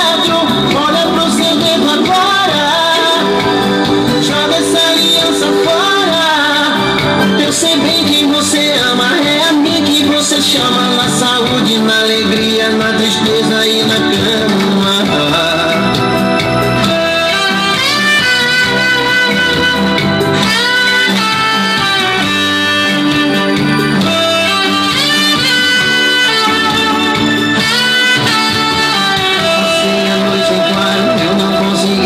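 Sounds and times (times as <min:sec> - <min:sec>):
instrumental music with sliding melody: 0:00.0 - 0:32.0.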